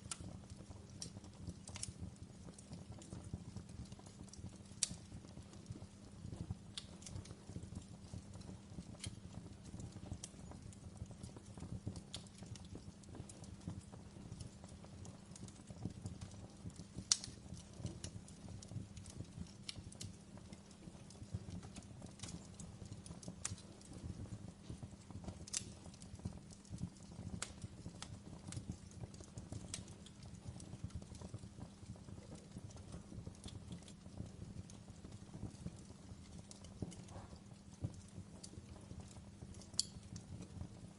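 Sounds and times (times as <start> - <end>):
flames rumbling: 0.0 - 40.9
logs crackling and popping: 0.0 - 40.9.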